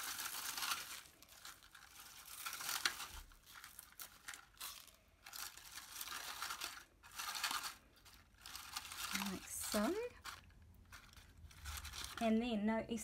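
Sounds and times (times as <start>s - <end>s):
shredded paper rustling: 0.0s - 12.4s.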